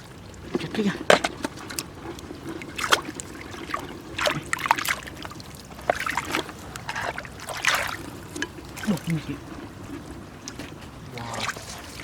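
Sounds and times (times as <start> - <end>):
low water wash: 0.0 - 12.0
water splashing and sloshing: 0.0 - 12.0.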